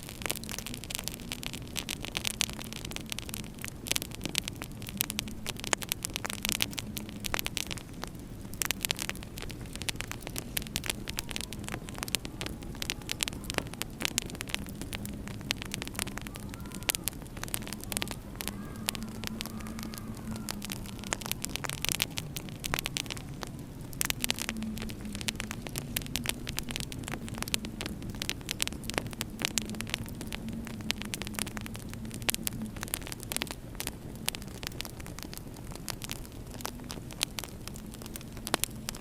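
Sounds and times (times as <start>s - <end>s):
faint whistling wind: 0.0s - 39.0s
wood fire crackling: 0.0s - 39.0s.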